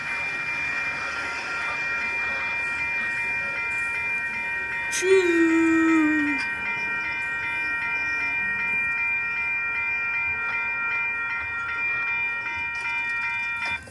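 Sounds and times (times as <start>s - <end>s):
toy crossing bell dinging: 0.0s - 13.9s.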